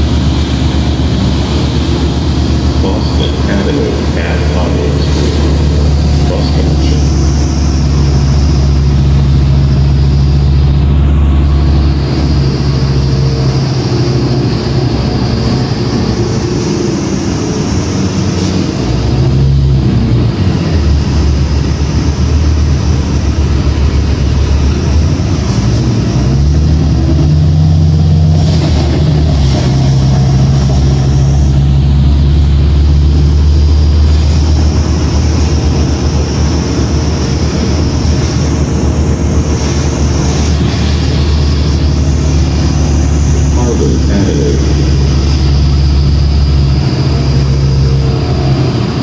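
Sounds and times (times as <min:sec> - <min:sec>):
bus engine drone: 0:00.0 - 0:49.0.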